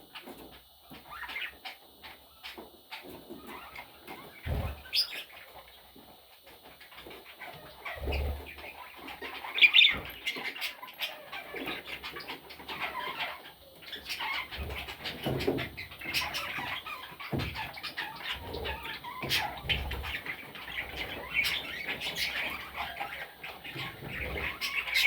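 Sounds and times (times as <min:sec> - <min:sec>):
budgerigars chirping: 0:00.1 - 0:25.0.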